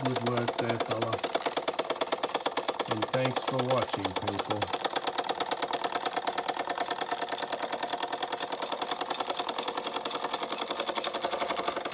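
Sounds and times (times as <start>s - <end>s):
toy steam engine clatter: 0.0s - 11.9s.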